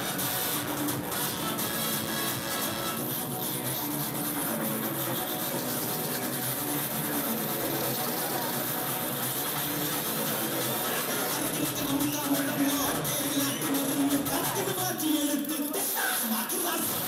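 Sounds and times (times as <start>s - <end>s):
dance music over loudspeakers: 0.0s - 17.0s.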